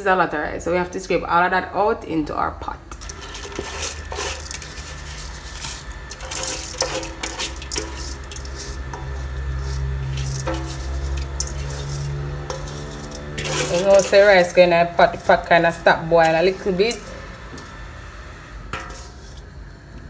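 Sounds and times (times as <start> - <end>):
low steady hum: 0.0 - 20.0
bowl and rice scraping metal pot: 2.9 - 19.7.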